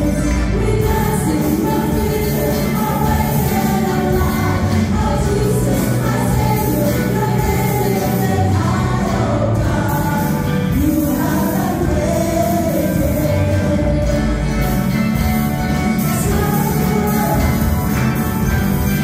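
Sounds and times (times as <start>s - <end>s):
women singing together: 0.0s - 14.5s, 16.0s - 18.3s
electric guitar: 0.0s - 19.0s
keyboard: 0.0s - 19.0s.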